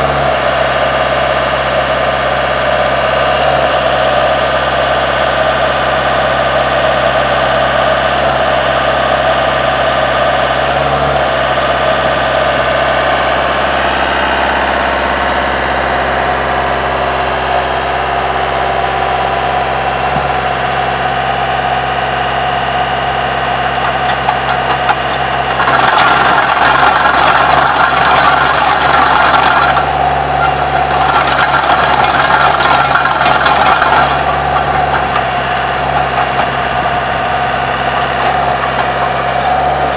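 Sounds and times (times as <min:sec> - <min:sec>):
trencher engine running: 0:00.0 - 0:39.9.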